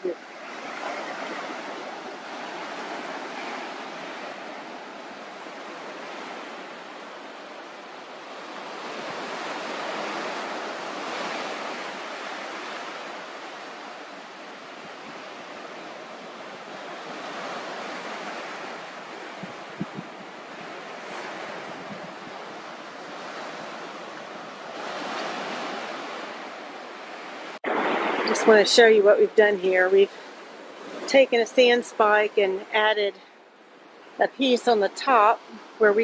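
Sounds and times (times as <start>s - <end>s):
ocean surf breaking on sand: 0.0s - 36.0s.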